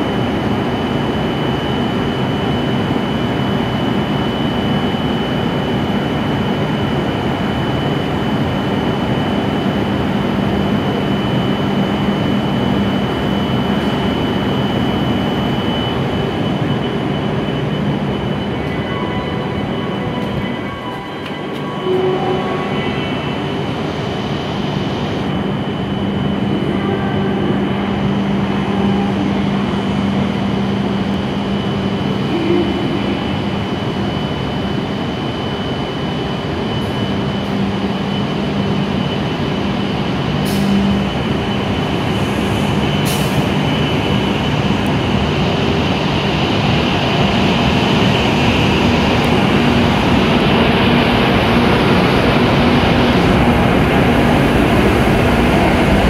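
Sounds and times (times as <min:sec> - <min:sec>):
train hum with high whine: 0:00.0 - 0:56.0.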